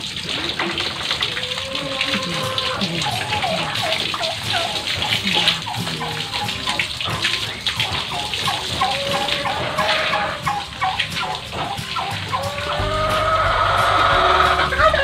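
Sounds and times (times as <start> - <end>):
water spraying from a hose: 0.0 - 15.0.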